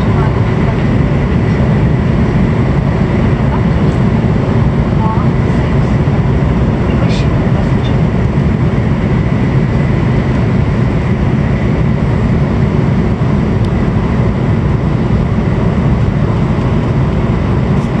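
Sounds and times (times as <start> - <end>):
faint steady whine: 0.0 - 18.0
train rumbling: 0.0 - 18.0.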